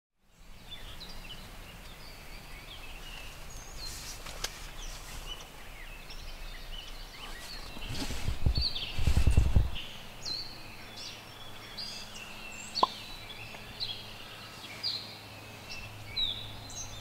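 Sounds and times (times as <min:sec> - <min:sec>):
songbirds chirping and whistling: 0:00.2 - 0:17.0
steady low hiss: 0:00.2 - 0:17.0.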